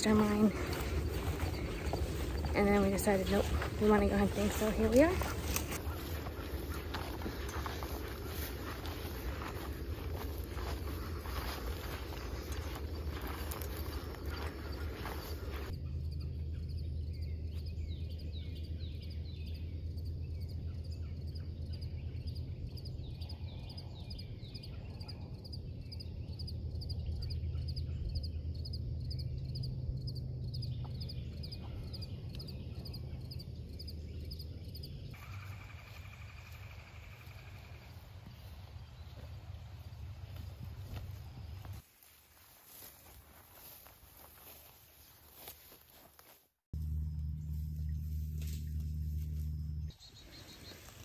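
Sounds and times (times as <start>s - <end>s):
birds calling: 0.0s - 29.7s, 30.4s - 41.8s, 46.9s - 51.0s
steady low rumble: 0.0s - 41.8s, 46.8s - 50.0s.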